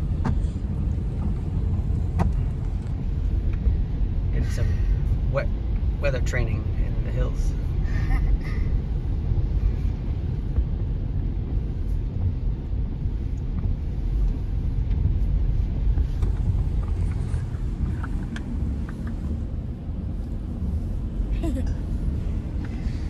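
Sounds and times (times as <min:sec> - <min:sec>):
road and tyre noise in car: 0:00.0 - 0:23.0.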